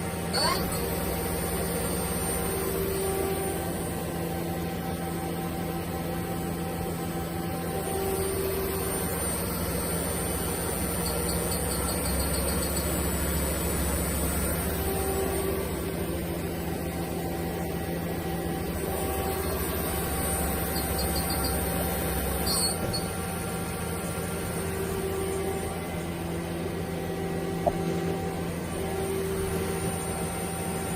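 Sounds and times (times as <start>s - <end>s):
machine hum with held tones: 0.0s - 30.9s.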